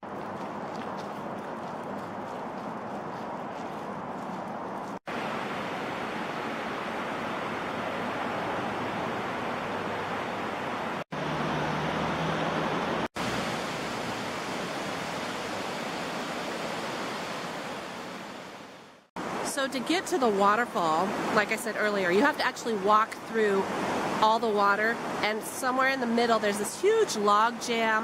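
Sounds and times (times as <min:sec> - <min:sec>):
fast creek rushing: 0:04.8 - 0:28.0.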